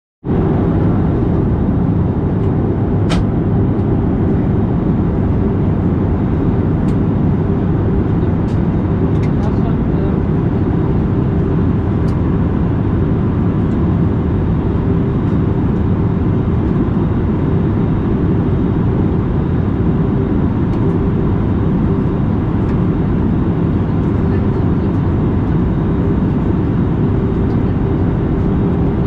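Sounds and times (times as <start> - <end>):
airliner cabin engine and airflow rumble: 0.3 - 29.0.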